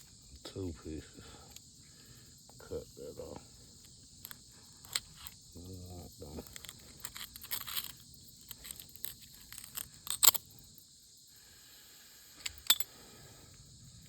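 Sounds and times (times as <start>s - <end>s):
crickets and insects chirring: 0.0s - 14.0s.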